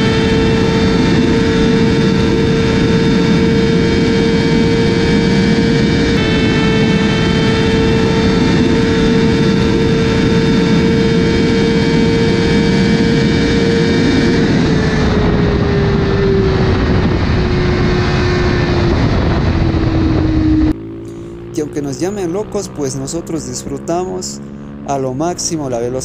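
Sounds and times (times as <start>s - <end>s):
heavy wind rush: 0.0s - 20.8s
motorcycle engine high-pitched drone: 0.0s - 26.0s.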